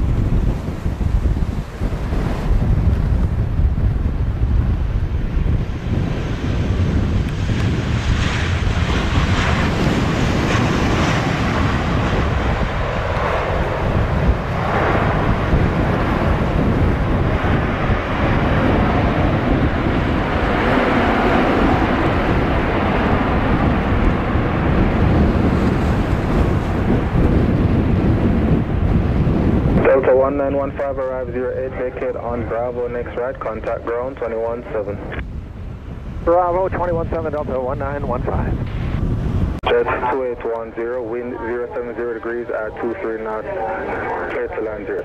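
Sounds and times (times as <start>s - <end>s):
jet engine landing: 0.0s - 45.0s
wind buffeting microphone: 0.0s - 45.0s.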